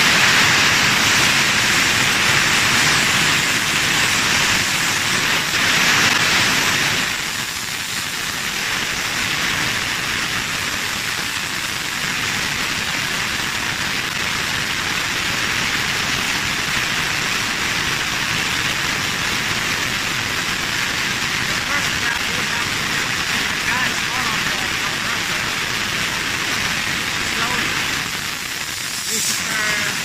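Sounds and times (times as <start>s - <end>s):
refrigerant gas hissing from hose: 0.0s - 30.0s.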